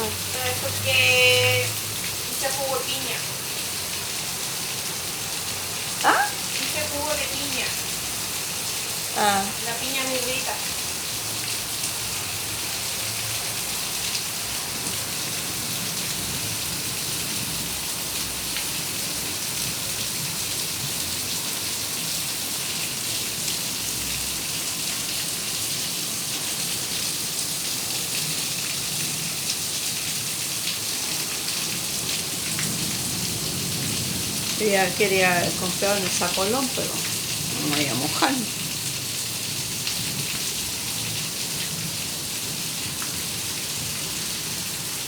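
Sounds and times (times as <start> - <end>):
heavy rain hissing: 0.0 - 29.6, 30.2 - 45.0.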